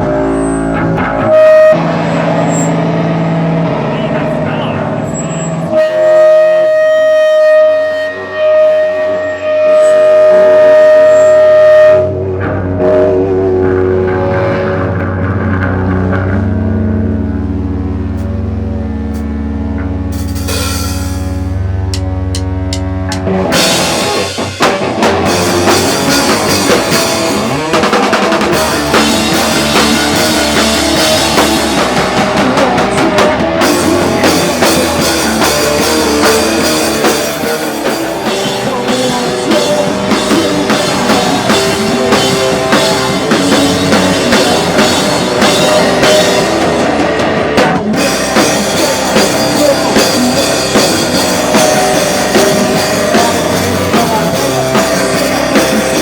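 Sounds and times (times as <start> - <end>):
drum kit: 0.0 - 56.0
live rock band playing: 0.0 - 56.0.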